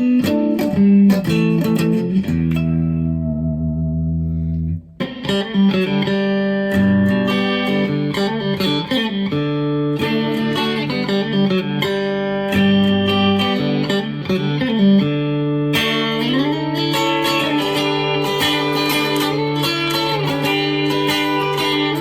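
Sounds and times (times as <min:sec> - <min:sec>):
clean electric guitar: 0:00.0 - 0:22.0.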